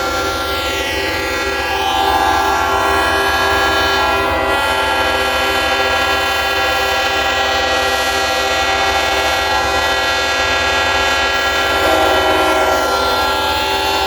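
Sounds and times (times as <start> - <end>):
locomotive air horns chord: 0.0 - 14.0.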